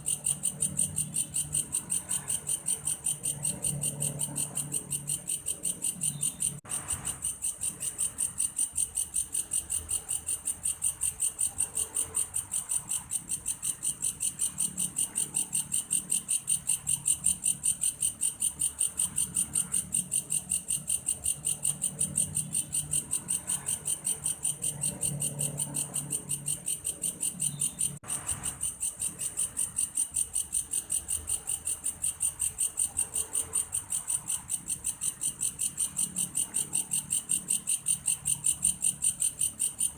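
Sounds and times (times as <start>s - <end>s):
grasshopper chirping song: 0.0s - 39.9s.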